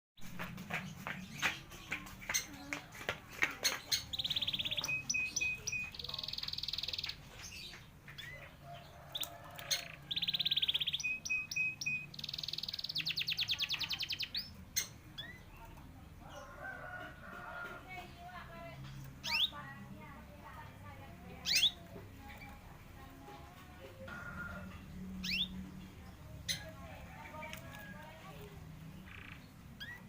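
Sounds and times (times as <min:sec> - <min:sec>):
canary singing: 0:01.0 - 0:30.0.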